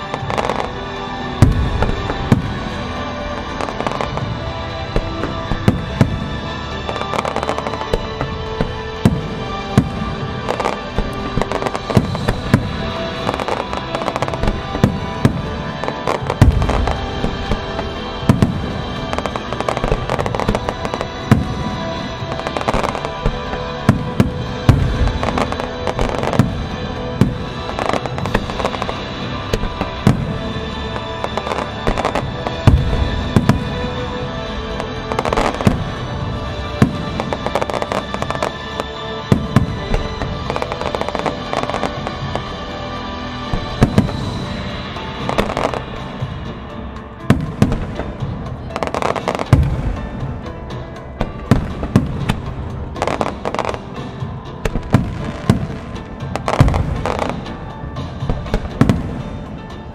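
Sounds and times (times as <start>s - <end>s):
fireworks bursting with bangs: 0.0s - 59.9s
music: 0.0s - 59.9s.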